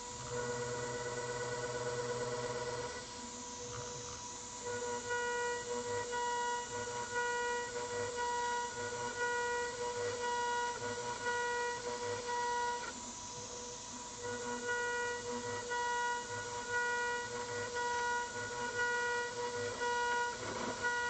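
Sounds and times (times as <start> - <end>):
router spindle cutting whine: 0.0 - 21.0.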